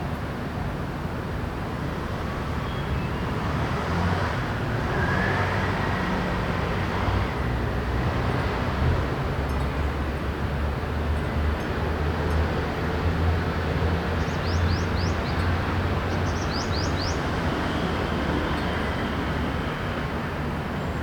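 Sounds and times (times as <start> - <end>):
city traffic hum: 0.0 - 21.0.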